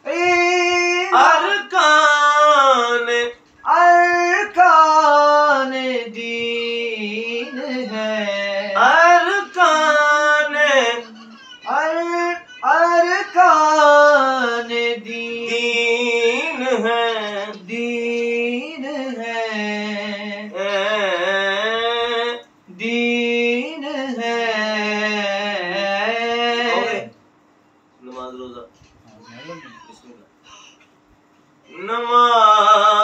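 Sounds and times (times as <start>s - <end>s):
man singing: 0.0s - 27.1s, 31.7s - 33.0s.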